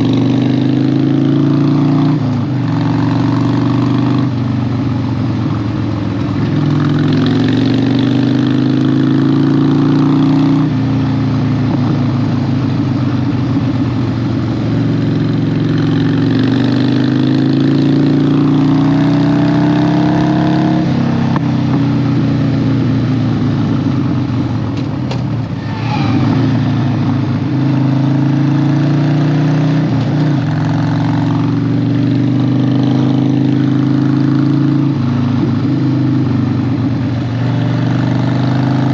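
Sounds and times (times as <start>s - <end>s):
motorcycle engine under throttle: 0.0s - 38.9s.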